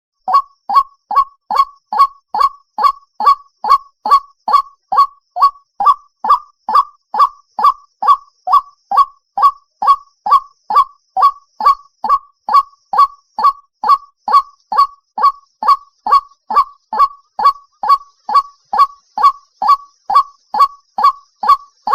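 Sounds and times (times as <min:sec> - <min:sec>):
waterhen calling harsh notes: 0:00.2 - 0:21.9.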